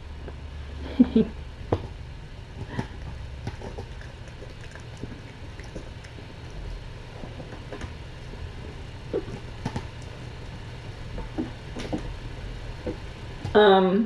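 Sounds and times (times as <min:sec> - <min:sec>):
low room hum: 0:00.0 - 0:14.0
kittens playing taps and rustles: 0:00.2 - 0:13.6.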